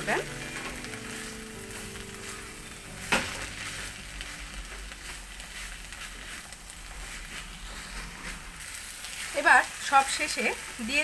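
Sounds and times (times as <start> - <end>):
vegetables sizzling in pan: 0.0 - 11.0
wooden spatula stirring: 0.0 - 11.0.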